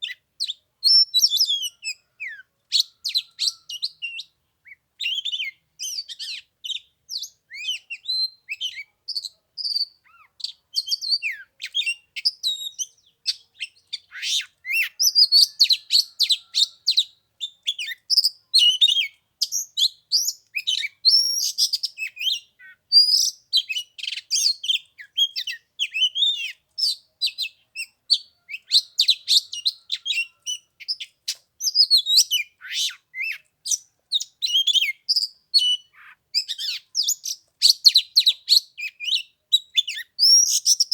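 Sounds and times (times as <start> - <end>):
bird singing whistles and chirps: 0.0 - 40.9.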